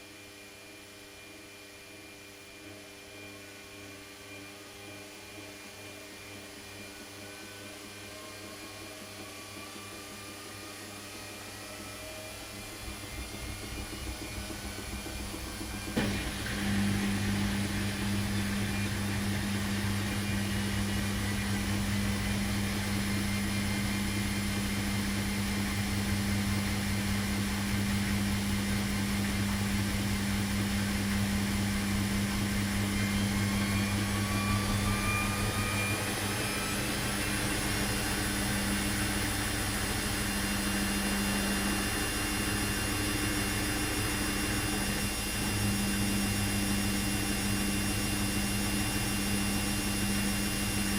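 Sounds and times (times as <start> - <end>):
washing machine motor hum: 4.1 - 50.9
faint rising whine: 6.8 - 50.9.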